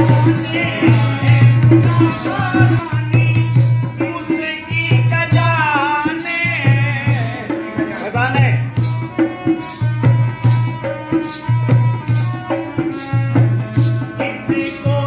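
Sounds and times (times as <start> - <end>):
dholak drum beating: 0.0 - 15.0
harmonium holding notes: 0.0 - 15.0
man singing: 0.0 - 15.0.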